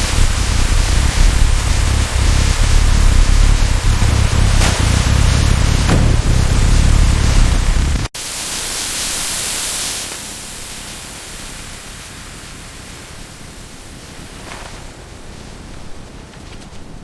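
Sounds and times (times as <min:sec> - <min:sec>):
steady hiss: 0:00.0 - 0:16.4.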